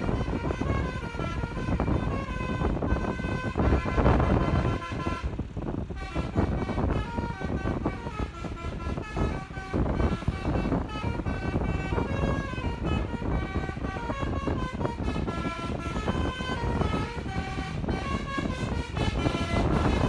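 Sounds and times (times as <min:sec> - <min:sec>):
bus engine rumble: 0:00.0 - 0:20.0
musical bus horn tune: 0:00.0 - 0:20.0
road noise: 0:00.0 - 0:20.0.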